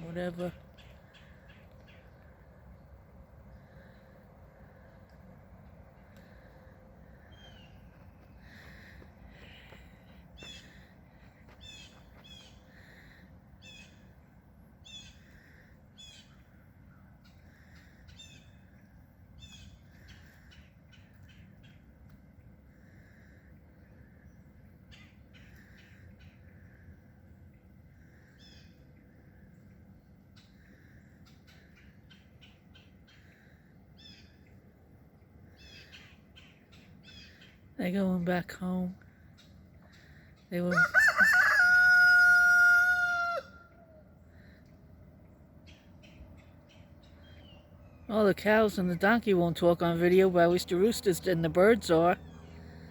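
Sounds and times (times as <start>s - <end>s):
low outdoor rumble: 0.0s - 52.9s.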